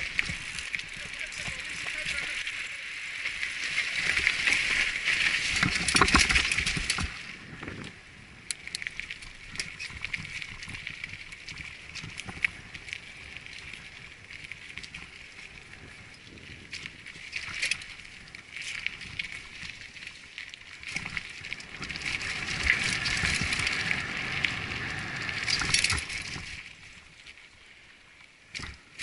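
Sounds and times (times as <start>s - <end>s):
bike rattling and clicking: 0.0s - 27.4s, 28.4s - 29.0s
bike tyres crunching over gravel: 0.0s - 29.0s.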